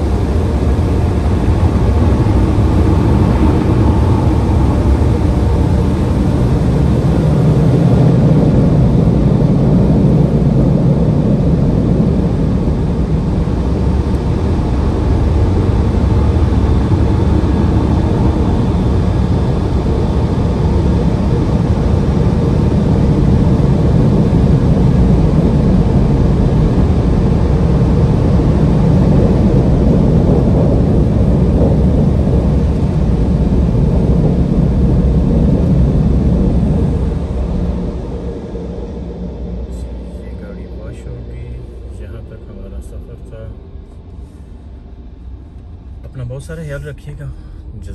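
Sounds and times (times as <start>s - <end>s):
car wash machinery rumbling: 0.0s - 47.9s.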